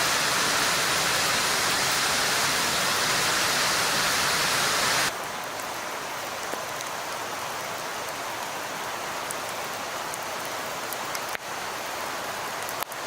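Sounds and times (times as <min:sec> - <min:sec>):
rain or sleet falling: 0:00.0 - 0:13.0.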